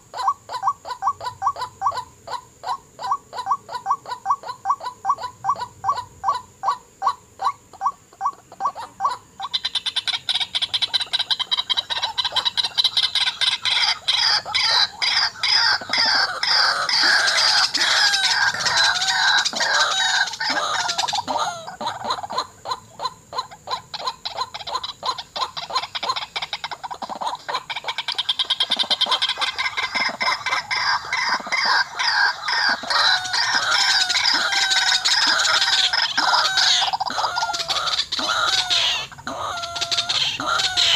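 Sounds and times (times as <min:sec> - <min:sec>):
waterhens calling: 0:00.0 - 0:40.9.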